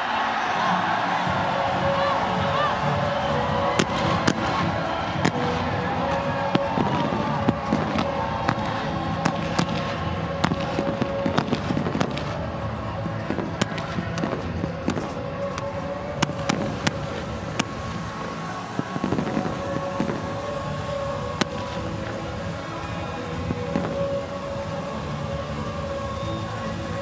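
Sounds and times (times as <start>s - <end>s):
held musical tone: 0.0s - 27.0s
fireworks banging: 0.9s - 27.0s.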